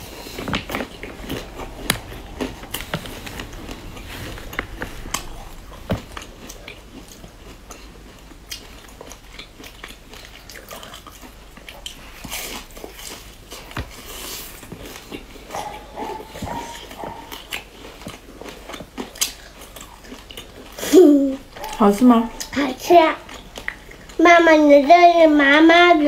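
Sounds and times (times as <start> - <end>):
biscuits crunching and chewing: 0.0 - 25.8.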